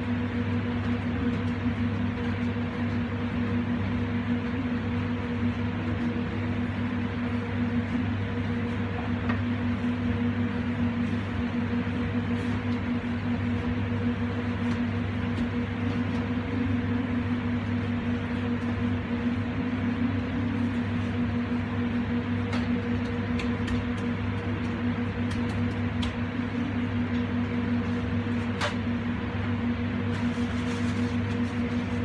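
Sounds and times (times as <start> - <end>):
kitchen equipment humming: 0.0 - 32.0.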